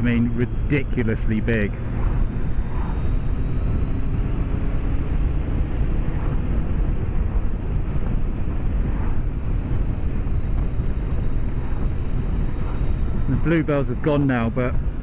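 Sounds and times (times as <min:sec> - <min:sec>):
motorcycle engine cruising: 0:00.0 - 0:15.0
wind rushing: 0:00.0 - 0:15.0.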